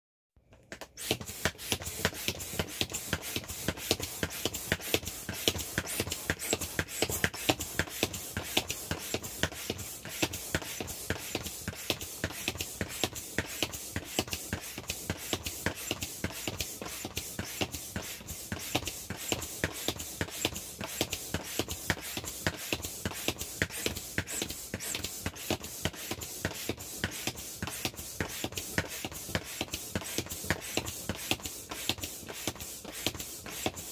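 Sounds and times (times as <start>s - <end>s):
air pump pulsing: 0.7s - 33.9s.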